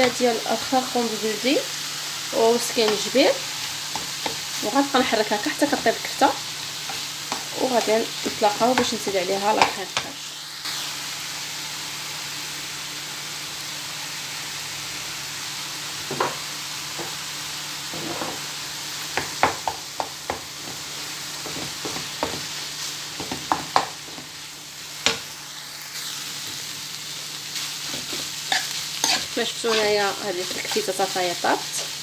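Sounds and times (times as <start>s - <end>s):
meat sizzling in a frying pan: 0.0s - 32.0s.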